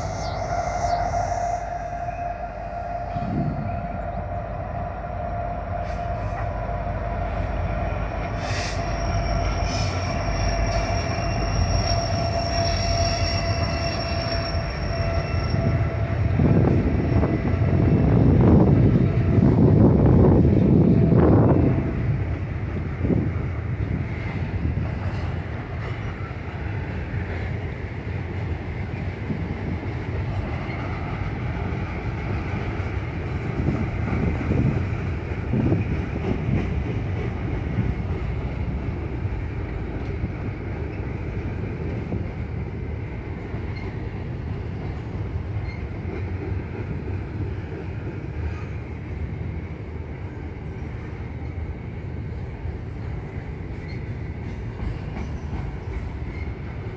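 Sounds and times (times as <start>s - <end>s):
freight train wheels rumbling on rail: 0.0s - 56.9s.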